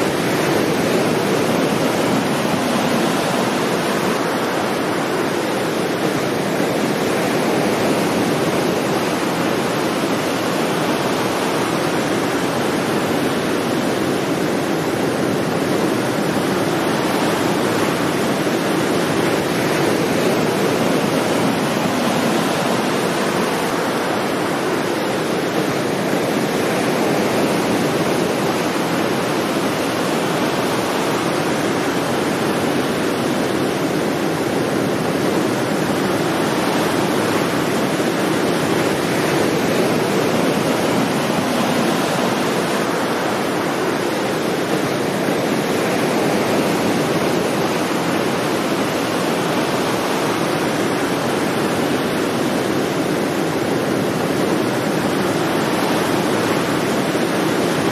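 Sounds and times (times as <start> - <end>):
ocean surf on sandy beach: 0.0 - 57.9.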